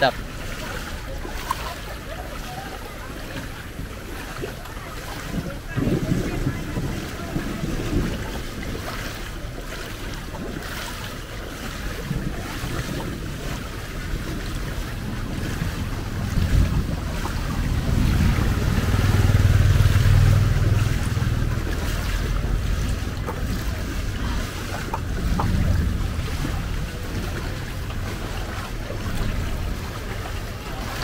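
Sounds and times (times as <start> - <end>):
heavy rain falling: 0.0 - 31.0
low rumble: 3.8 - 31.0.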